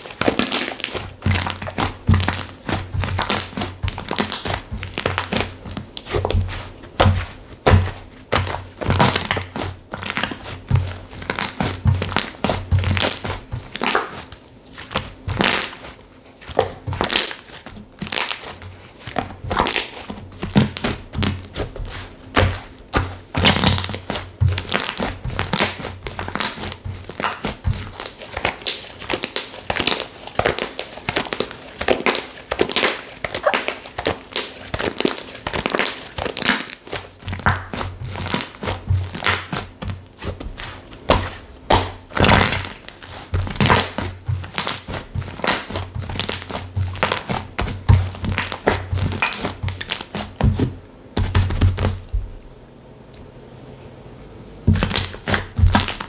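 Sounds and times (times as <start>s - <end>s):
slime squished by hand: 0.0s - 52.1s, 54.7s - 56.0s.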